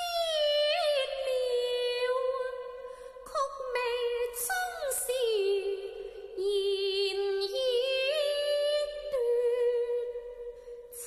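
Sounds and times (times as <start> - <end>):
woman singing opera: 0.0 - 11.0.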